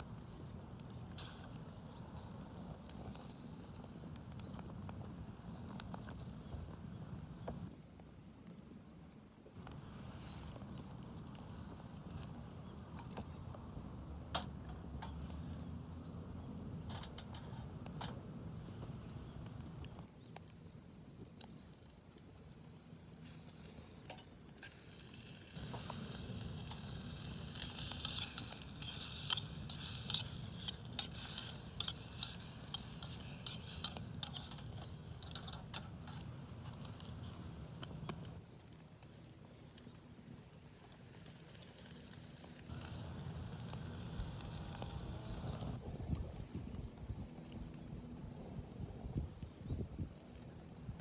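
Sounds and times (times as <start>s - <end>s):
food sizzling over campfire: 0.0s - 7.7s, 9.6s - 20.1s, 22.6s - 46.2s.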